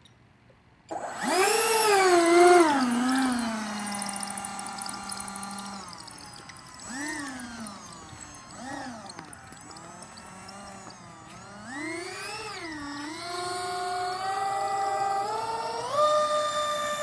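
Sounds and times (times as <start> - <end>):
electric ducted fans whining: 0.9 - 17.0.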